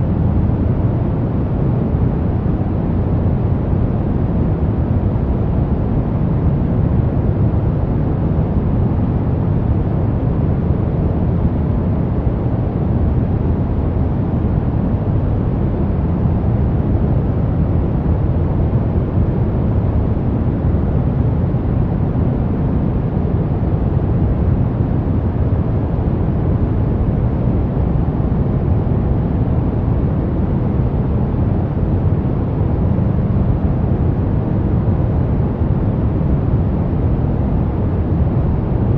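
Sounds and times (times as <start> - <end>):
steady brown noise hiss: 0.0 - 38.9.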